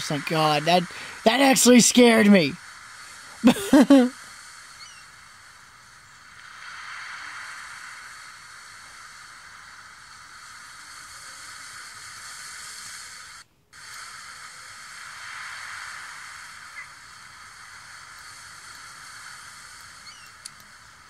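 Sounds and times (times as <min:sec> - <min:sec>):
faint high whine: 0:00.0 - 0:21.0
steady hissing noise: 0:00.0 - 0:21.0.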